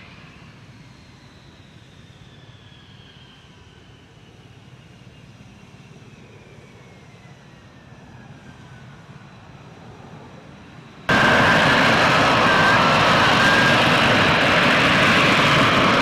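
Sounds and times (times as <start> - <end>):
jet engine whine: 0.0 - 16.0
loud jet engine noise: 0.0 - 16.0.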